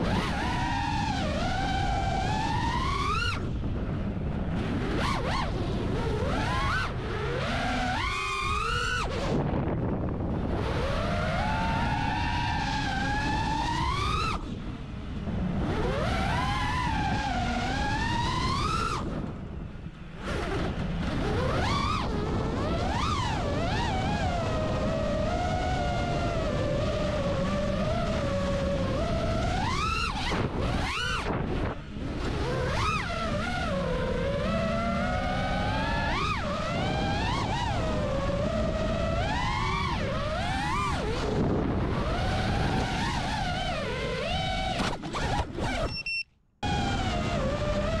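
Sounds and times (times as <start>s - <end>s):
wind rushing over microphone: 0.0s - 45.8s, 46.6s - 48.0s
drone motors and propellers whining: 0.0s - 48.0s.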